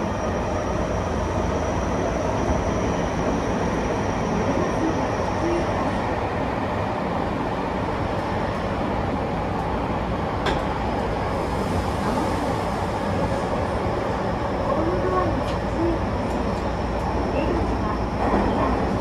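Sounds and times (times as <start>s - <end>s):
train wheels rumbling in tunnel: 0.0s - 19.0s.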